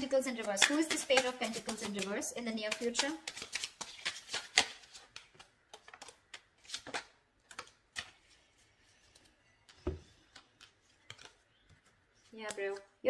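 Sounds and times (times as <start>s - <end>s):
cards being shuffled: 0.3s - 12.9s.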